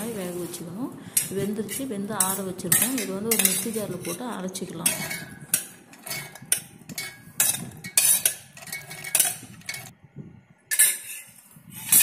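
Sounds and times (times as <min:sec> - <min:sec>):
steel clinking and scraping: 0:00.0 - 0:10.0, 0:10.7 - 0:12.0.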